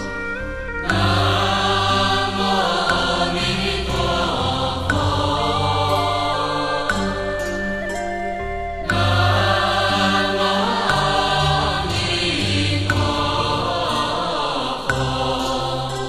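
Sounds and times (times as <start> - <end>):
buddhist chanting slow melody: 0.0 - 16.0.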